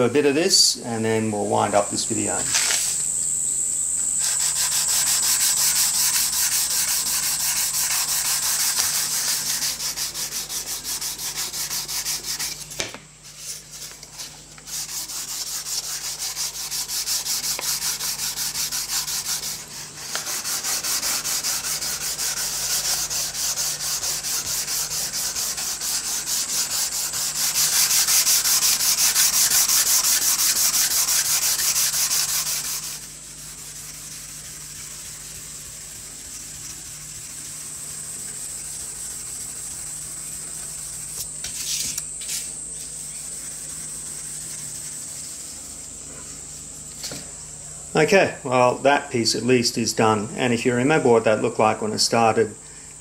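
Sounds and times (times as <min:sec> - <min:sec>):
sandpaper rasping on wood: 0:04.1 - 0:47.1.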